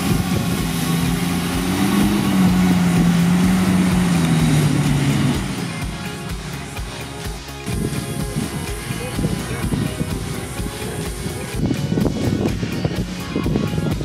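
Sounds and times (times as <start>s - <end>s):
car engine labouring: 0.0s - 14.0s.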